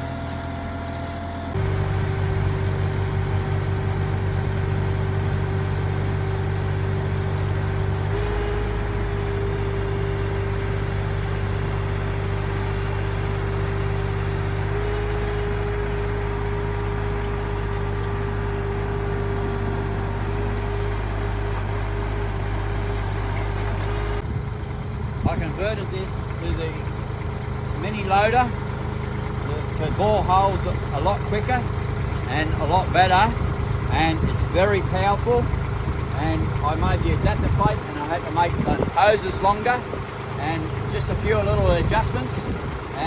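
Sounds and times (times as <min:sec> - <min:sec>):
hydraulic whine: 0:00.0 - 0:43.0
loader engine running: 0:00.0 - 0:43.0.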